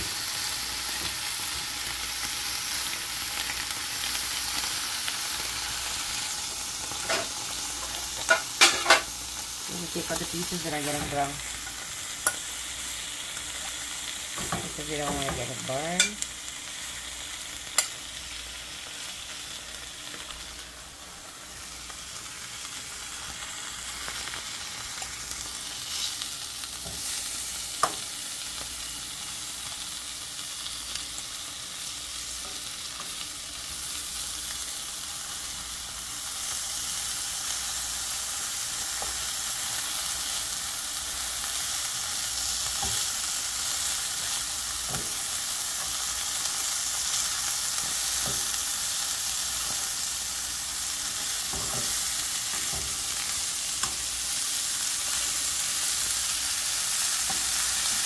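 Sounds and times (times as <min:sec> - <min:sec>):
cheese sizzling in a pan: 0:00.0 - 0:58.0.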